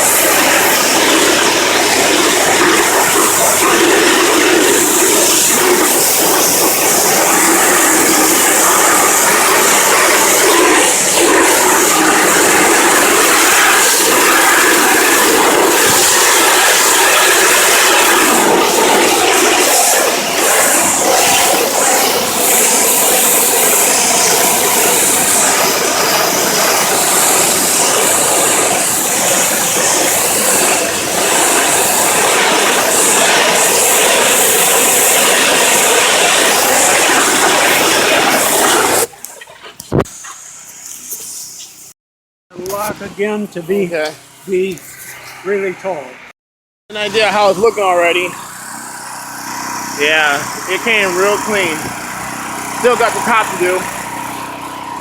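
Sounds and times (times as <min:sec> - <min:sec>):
pressure washer spraying water: 0:00.0 - 0:41.9, 0:46.9 - 0:55.0.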